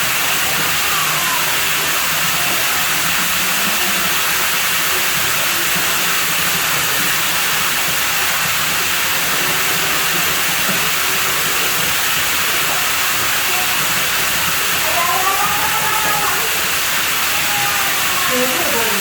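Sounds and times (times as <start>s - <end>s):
water pouring into pool: 0.0s - 19.0s.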